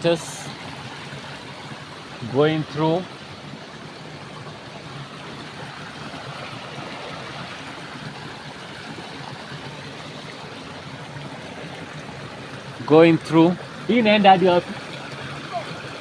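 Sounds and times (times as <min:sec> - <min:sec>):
shallow stream running: 0:00.0 - 0:16.0.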